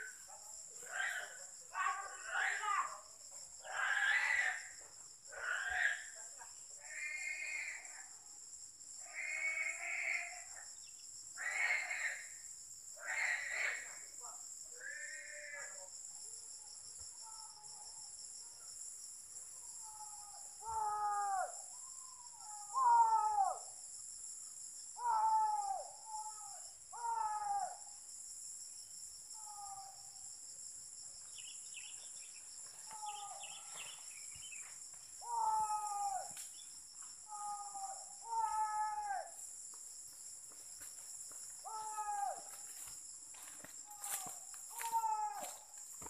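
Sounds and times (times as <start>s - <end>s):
insects droning: 0.0s - 46.0s.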